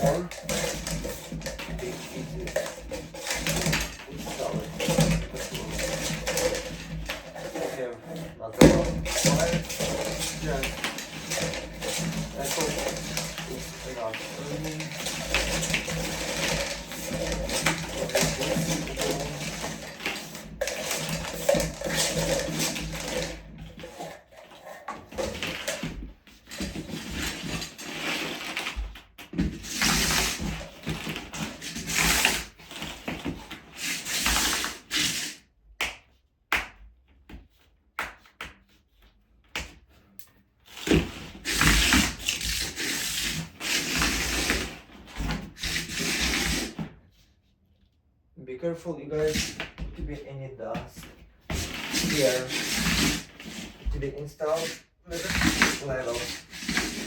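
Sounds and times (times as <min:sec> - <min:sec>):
hand rubbing and scraping cable: 0:00.0 - 0:35.4, 0:38.1 - 0:47.8, 0:48.8 - 0:57.0.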